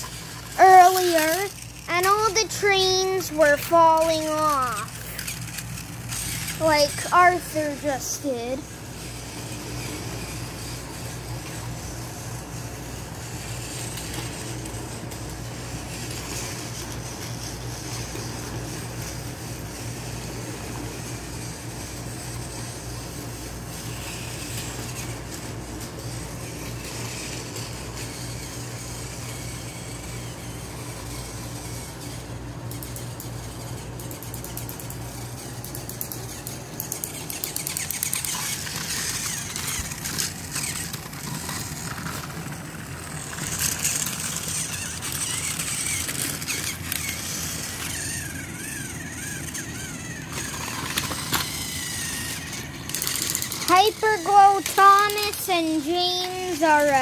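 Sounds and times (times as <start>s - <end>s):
toy train motor whir: 0.0s - 57.0s.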